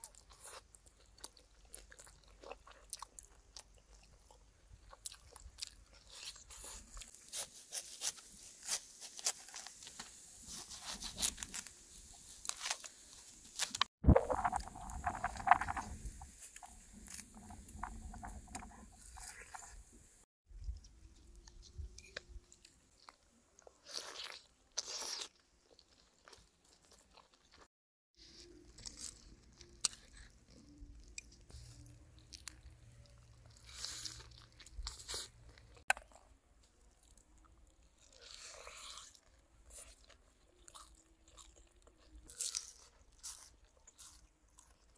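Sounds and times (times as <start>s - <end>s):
person crunching food: 0.0s - 19.8s, 22.0s - 36.3s, 36.9s - 44.9s.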